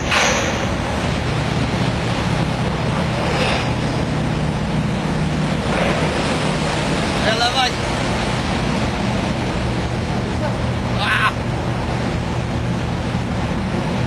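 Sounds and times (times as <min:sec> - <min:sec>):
boat engines droning: 0:00.0 - 0:14.0
propellers churning water: 0:00.0 - 0:14.0.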